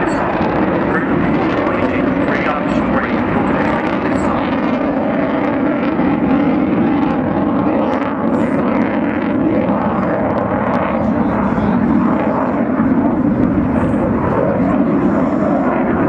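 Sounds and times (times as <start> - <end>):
jet flying past: 0.0 - 16.0.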